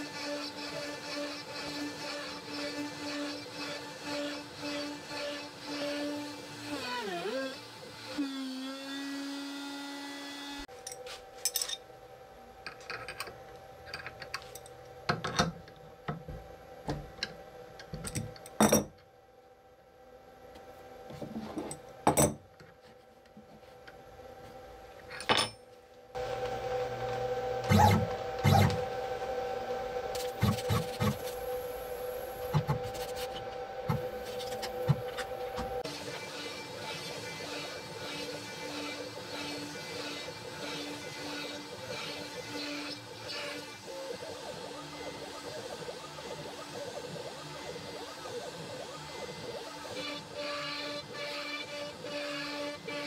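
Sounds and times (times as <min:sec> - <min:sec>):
two-tone electrical hum: 0:00.0 - 0:53.0.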